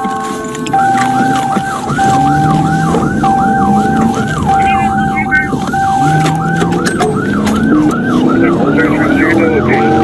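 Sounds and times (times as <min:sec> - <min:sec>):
siren yelping: 0:00.0 - 0:10.0
steady siren tone: 0:00.0 - 0:10.0.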